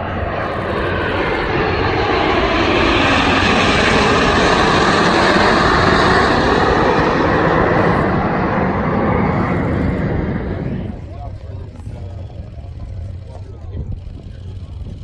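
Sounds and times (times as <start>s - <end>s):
jet aircraft roaring past: 0.0s - 15.0s.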